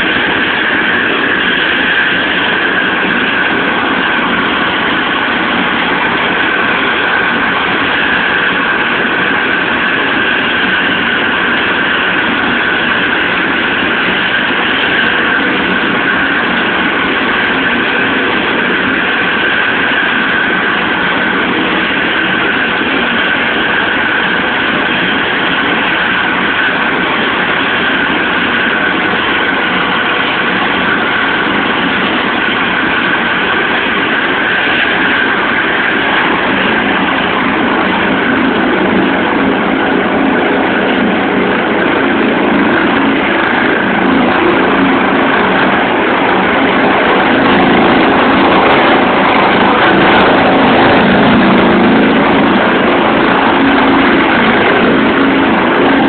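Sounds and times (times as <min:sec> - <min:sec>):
helicopter turbine engines running: 0:00.0 - 0:56.0.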